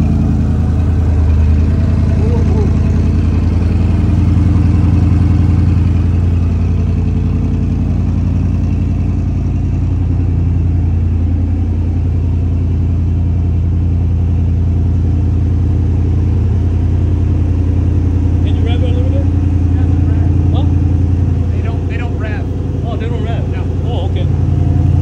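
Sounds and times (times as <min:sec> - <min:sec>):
car engine idling deeply: 0:00.0 - 0:25.0.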